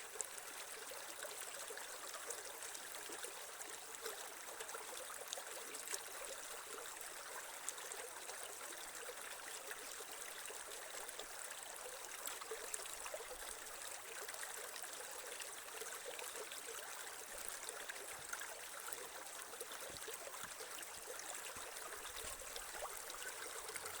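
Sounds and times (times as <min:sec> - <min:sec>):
creek water trickling over stones: 0:00.0 - 0:24.0.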